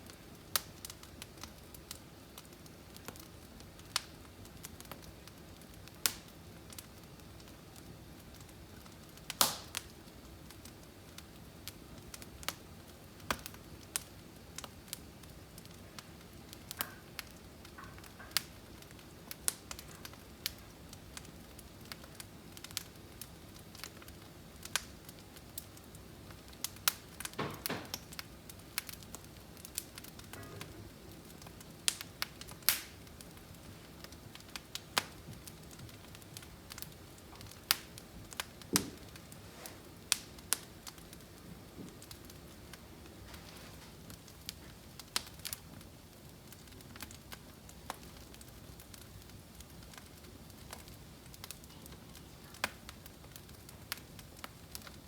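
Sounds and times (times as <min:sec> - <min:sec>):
firewood crackling and popping: 0:00.0 - 0:55.0
rumble of flames: 0:00.0 - 0:55.0.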